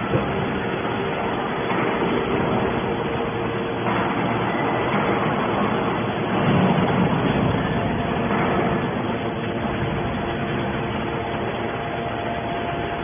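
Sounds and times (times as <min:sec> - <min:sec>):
hydraulic power unit hum: 0:00.0 - 0:13.0.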